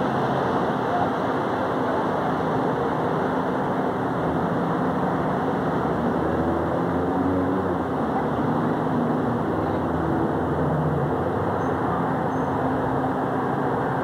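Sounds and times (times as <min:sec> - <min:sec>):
city traffic drone: 0:00.0 - 0:14.0.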